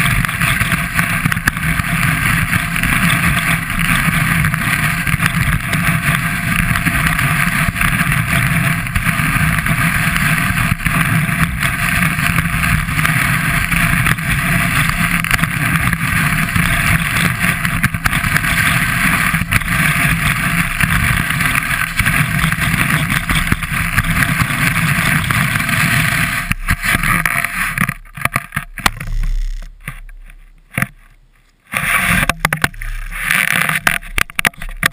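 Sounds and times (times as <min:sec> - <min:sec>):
snow scraping: 0:00.0 - 0:27.8, 0:31.7 - 0:34.1
skis rushing over snow: 0:00.0 - 0:28.1, 0:31.7 - 0:34.9
wind rushing over microphone: 0:00.0 - 0:29.5.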